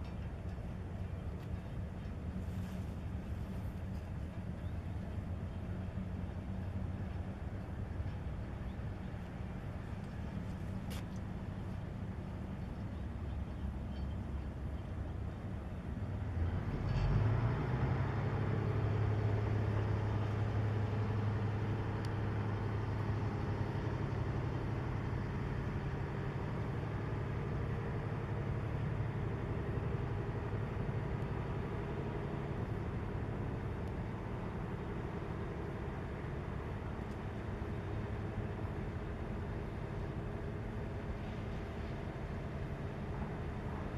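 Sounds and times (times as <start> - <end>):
ship diesel engine drone: 0.0 - 43.9.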